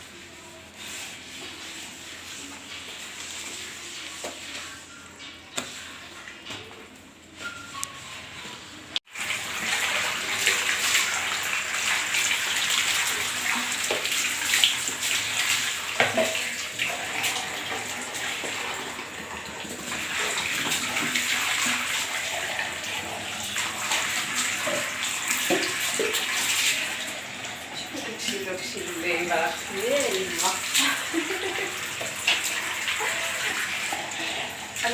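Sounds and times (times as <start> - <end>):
water running and splashing: 0.0 - 4.8, 9.1 - 34.9.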